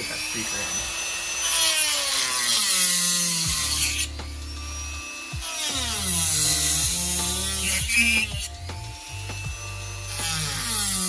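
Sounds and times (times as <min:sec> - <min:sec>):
rotary tool cutting plastic: 0:00.0 - 0:11.0.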